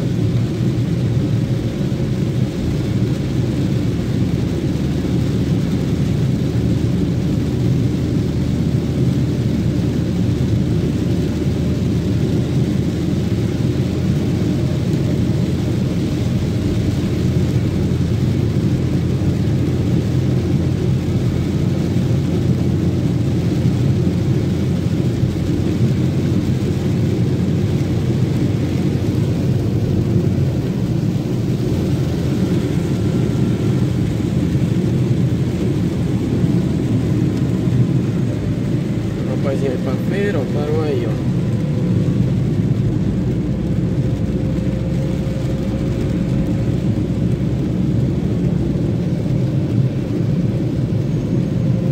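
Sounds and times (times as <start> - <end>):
rain on a car: 0.0 - 51.9
tyre noise on wet road: 0.0 - 51.9.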